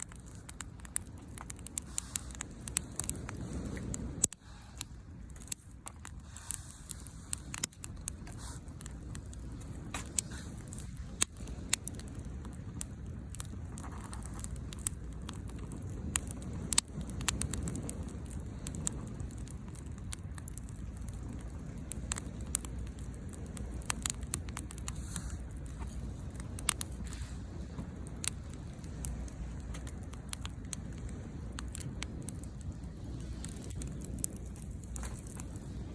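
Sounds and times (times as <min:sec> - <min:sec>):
firewood crackling and popping: 0:00.0 - 0:35.9
low steady rumble: 0:00.0 - 0:35.9.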